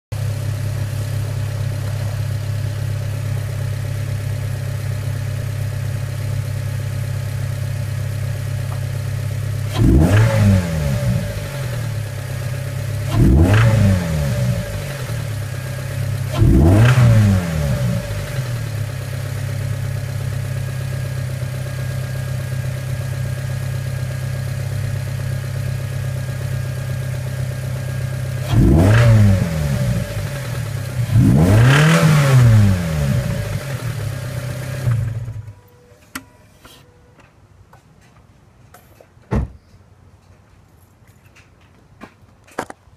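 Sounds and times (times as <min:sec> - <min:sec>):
car engine idling and revving: 0:00.1 - 0:35.7.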